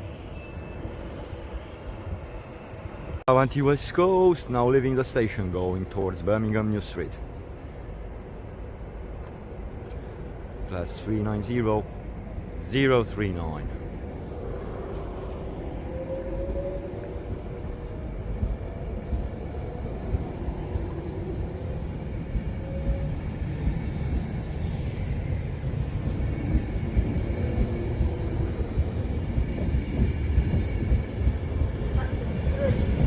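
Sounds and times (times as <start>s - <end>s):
electric train rumbling: 0.0s - 33.0s
faint train whine: 0.0s - 33.0s.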